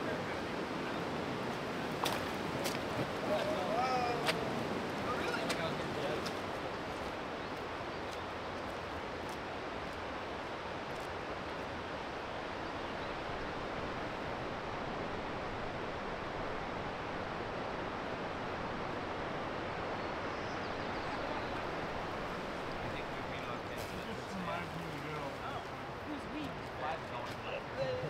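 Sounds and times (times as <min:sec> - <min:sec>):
water flowing: 0:00.0 - 0:28.0.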